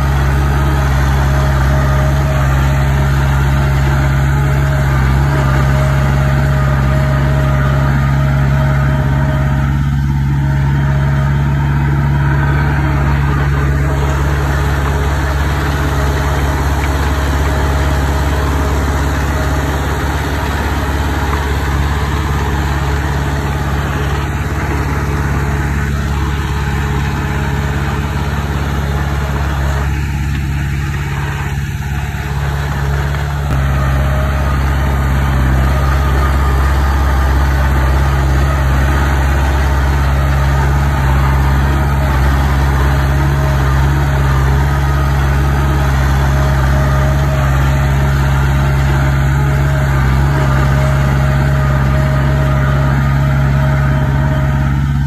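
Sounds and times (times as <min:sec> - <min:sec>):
heavy machine engine humming: 0:00.0 - 0:55.0.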